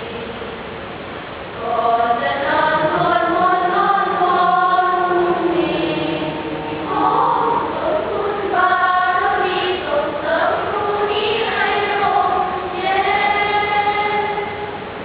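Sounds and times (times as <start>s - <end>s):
children's choir singing: 1.6s - 14.8s.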